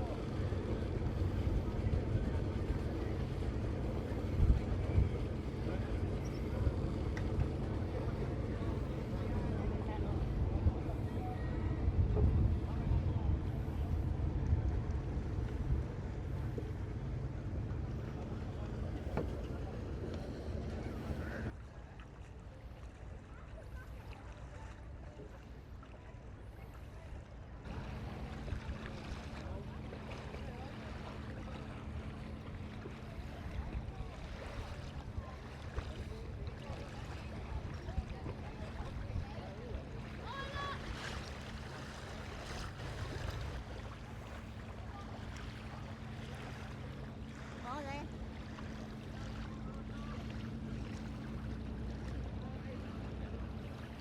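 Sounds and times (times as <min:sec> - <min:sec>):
boat engine idling: 0:00.0 - 0:21.6, 0:22.3 - 0:54.0.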